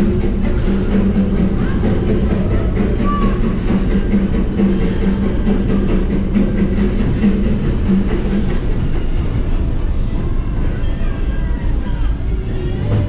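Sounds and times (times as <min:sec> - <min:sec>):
train rumbling: 0:00.0 - 0:13.0
train wheels clicking: 0:00.0 - 0:13.0.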